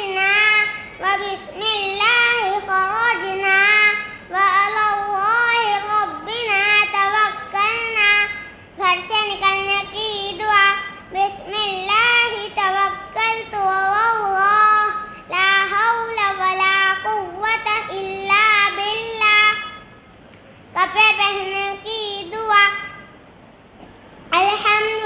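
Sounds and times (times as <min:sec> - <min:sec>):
boy singing in high voice: 0:00.0 - 0:19.8, 0:20.7 - 0:23.1, 0:24.3 - 0:25.0.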